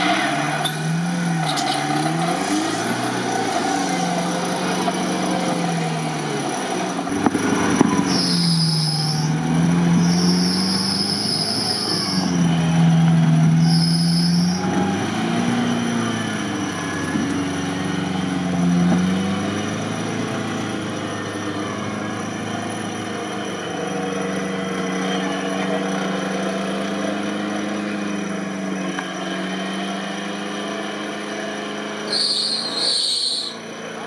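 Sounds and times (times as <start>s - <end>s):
high-pitched whine: 0.0s - 29.8s
engine revving: 0.0s - 34.0s.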